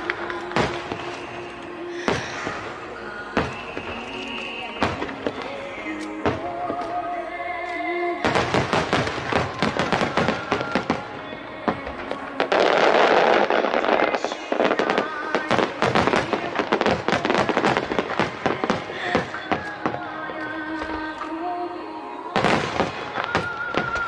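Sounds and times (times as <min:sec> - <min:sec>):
fireworks bangs and crackling: 0:00.0 - 0:21.7, 0:22.3 - 0:24.0
background music: 0:00.0 - 0:24.0.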